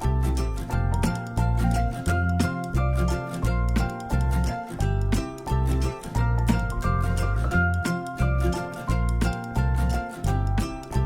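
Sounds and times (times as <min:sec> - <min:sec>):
bouncy background music: 0:00.0 - 0:11.0.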